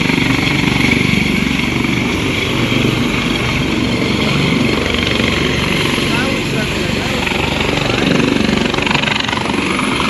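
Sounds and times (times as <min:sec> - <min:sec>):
helicopter taking off: 0:00.0 - 0:10.0.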